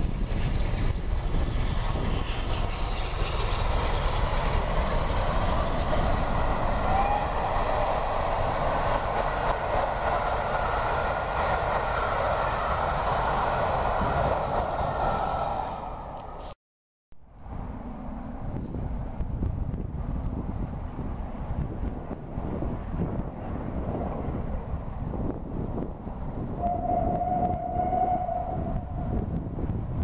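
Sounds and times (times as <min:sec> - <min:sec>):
steam locomotives rumbling: 0:00.0 - 0:16.6, 0:17.4 - 0:30.0
train coaches rolling on track: 0:00.0 - 0:16.6, 0:17.5 - 0:30.0.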